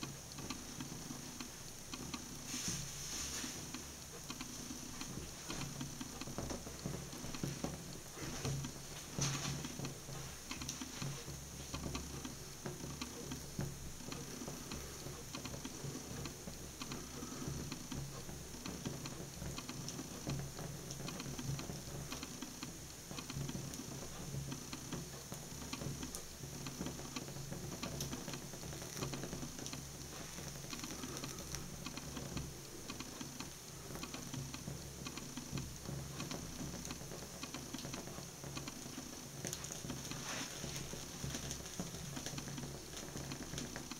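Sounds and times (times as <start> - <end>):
burning fabric crackling: 0.0 - 43.9.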